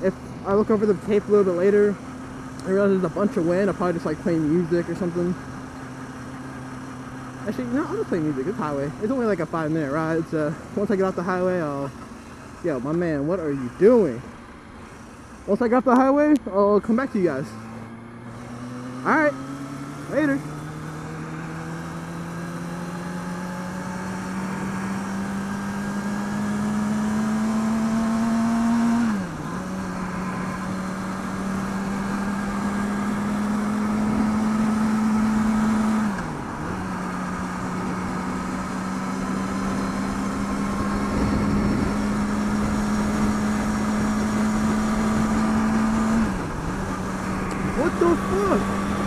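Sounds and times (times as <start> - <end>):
motorcycle engine running: 0.0 - 49.0
wind and road noise: 0.0 - 49.0.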